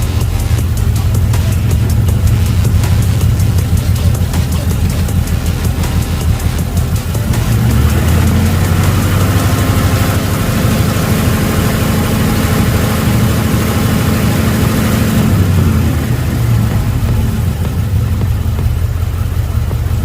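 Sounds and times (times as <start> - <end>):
engine revving then idling: 0.0 - 20.0.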